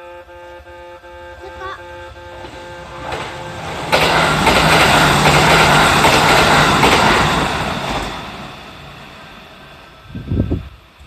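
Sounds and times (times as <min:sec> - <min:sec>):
train wheel and rail noise: 0:00.0 - 0:11.0.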